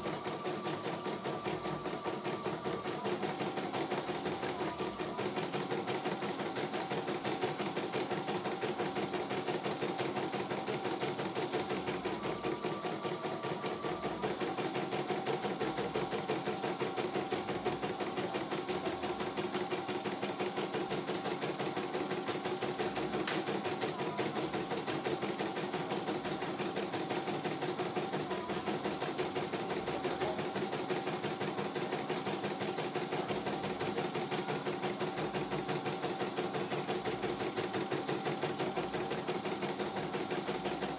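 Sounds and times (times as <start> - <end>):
embroidery machine needle stitching: 0.0 - 40.9.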